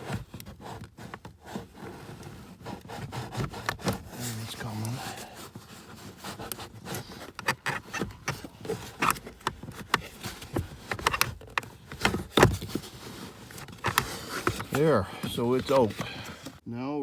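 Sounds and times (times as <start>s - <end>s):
plastic scraping and knocking: 0.0s - 16.6s.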